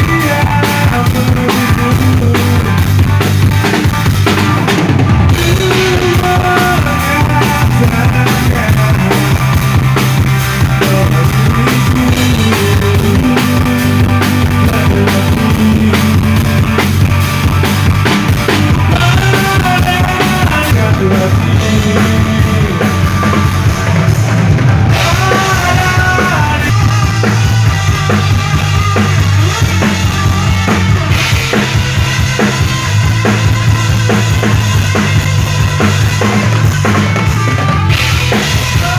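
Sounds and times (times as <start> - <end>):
bass notes: 0.0 - 38.9
rock band playing live: 0.0 - 38.9.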